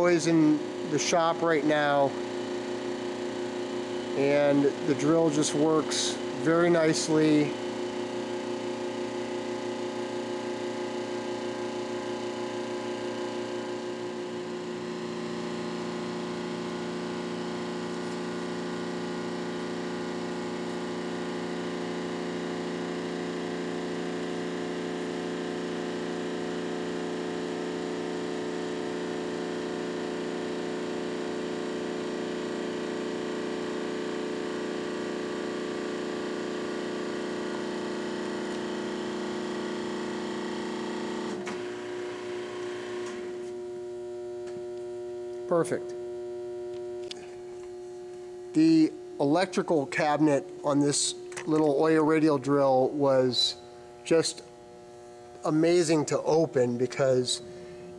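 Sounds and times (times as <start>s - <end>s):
drill press motor humming: 0.0s - 57.9s.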